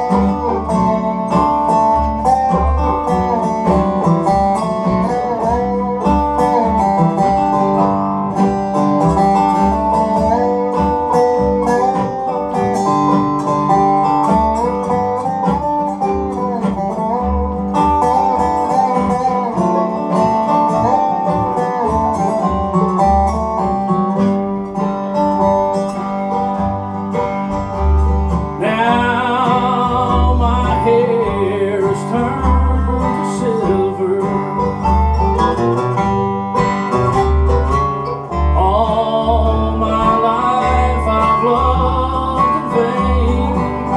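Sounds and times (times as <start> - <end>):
resonator guitar sliding lead: 0.0 - 43.9
strummed acoustic guitar: 0.0 - 43.9
upright bass notes: 0.0 - 43.9.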